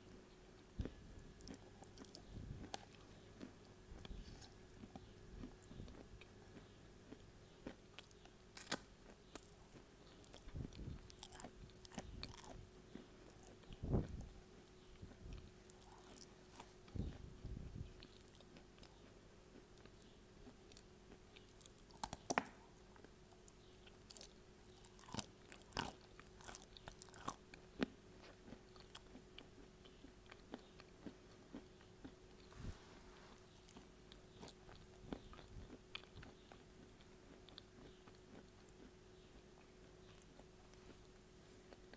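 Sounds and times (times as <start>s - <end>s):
person chewing clay: 0.0s - 41.9s.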